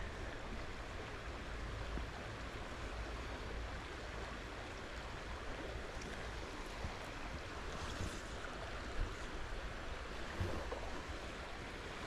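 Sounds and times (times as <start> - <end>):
fast stream water rushing: 0.0 - 12.0.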